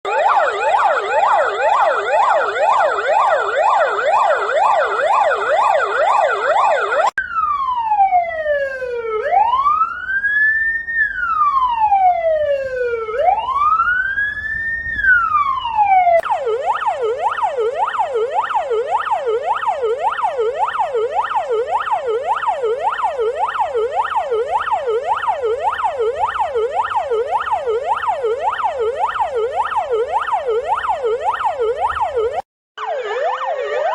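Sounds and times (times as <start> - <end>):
emergency vehicle sirens: 0.0 - 33.9.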